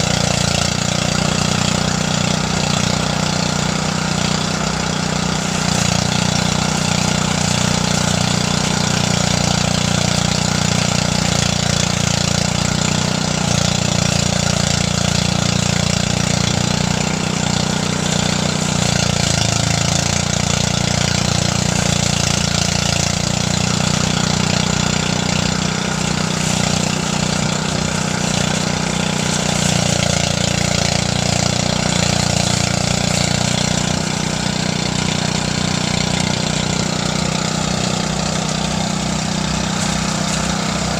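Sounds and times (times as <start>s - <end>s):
threshing machine engine running: 0.0s - 40.9s.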